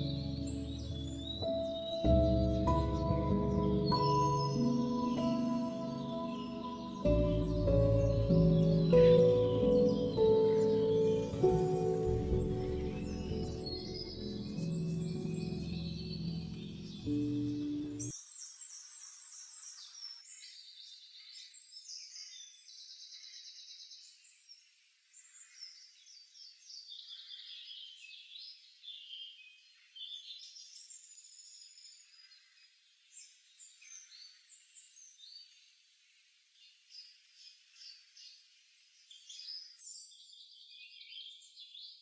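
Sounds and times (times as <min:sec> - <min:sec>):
songbirds singing and calling: 0:00.0 - 0:35.6.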